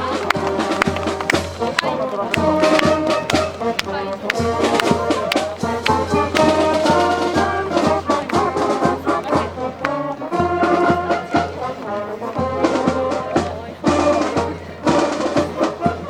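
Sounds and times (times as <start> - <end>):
held brass notes: 0.0 - 16.0
steady drum beat: 0.0 - 16.0.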